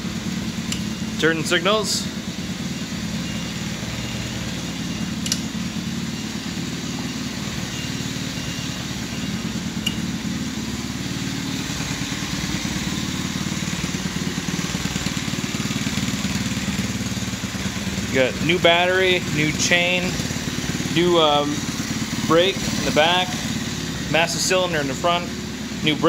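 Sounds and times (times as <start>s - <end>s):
small engine idling: 0.0s - 26.0s.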